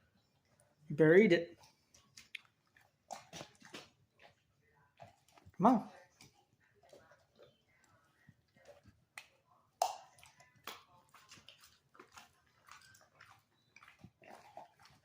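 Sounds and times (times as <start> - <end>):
dog chewing wet smacks: 1.5 - 15.0.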